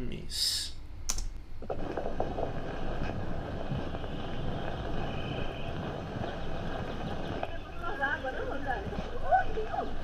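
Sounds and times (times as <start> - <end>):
film soundtrack hiss and rumble: 0.0 - 10.0.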